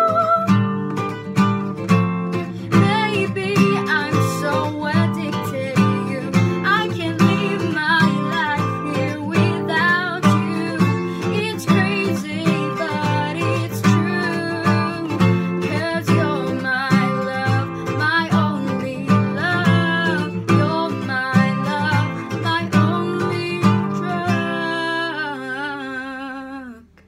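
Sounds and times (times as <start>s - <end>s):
woman singing: 0.0s - 0.7s, 2.4s - 27.0s
acoustic guitar strumming: 0.0s - 25.5s.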